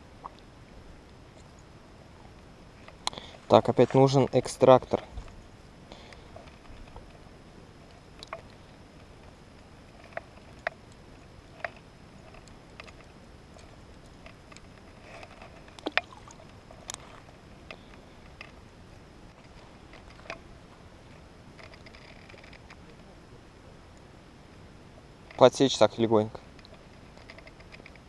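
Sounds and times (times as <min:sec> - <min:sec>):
low background hiss: 0:00.0 - 0:28.0.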